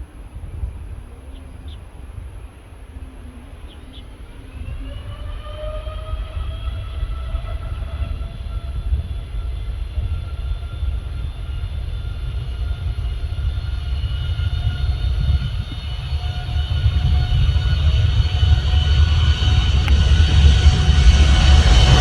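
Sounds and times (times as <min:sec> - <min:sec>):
jet engines at takeoff power: 0:00.0 - 0:22.0.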